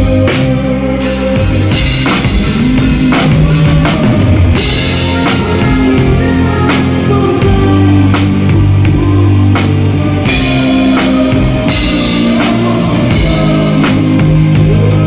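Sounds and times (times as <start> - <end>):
bass drum hits: 0.0 - 15.0
rock band music: 0.0 - 15.0.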